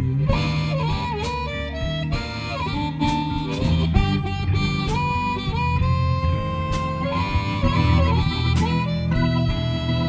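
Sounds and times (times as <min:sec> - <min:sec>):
blues band playing: 0:00.0 - 0:10.0
wind instrument sliding notes: 0:00.0 - 0:10.0.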